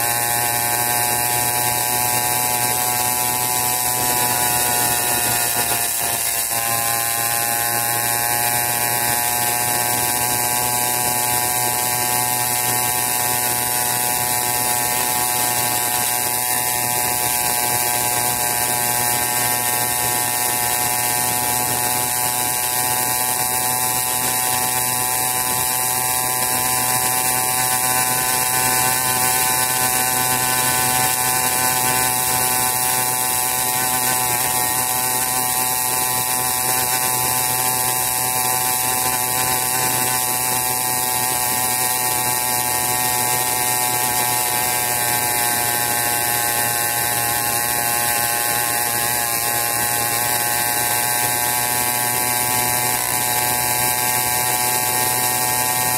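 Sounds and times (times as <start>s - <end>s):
minibike engine buzzing: 0.0s - 55.9s.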